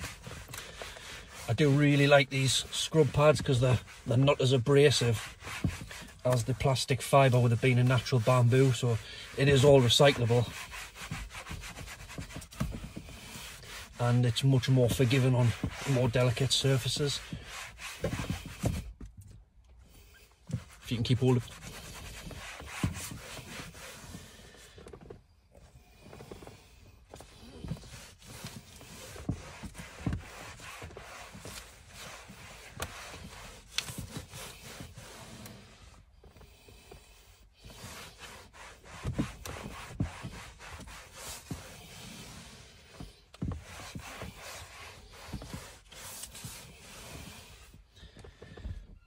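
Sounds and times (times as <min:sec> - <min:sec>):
scrub pad scrubbing plastic: 0:00.0 - 0:19.0, 0:20.4 - 0:24.5, 0:26.1 - 0:47.9
cloth wiping panel: 0:00.0 - 0:19.1, 0:20.0 - 0:24.9, 0:25.7 - 0:48.8.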